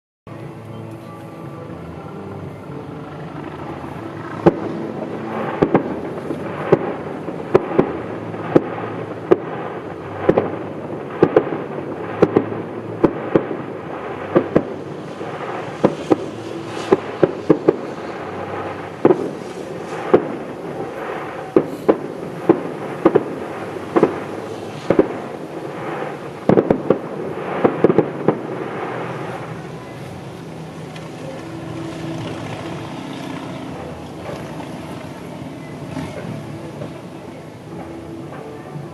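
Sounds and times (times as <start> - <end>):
background rumble: 0.5 - 38.9
fireworks bangs: 3.3 - 38.9.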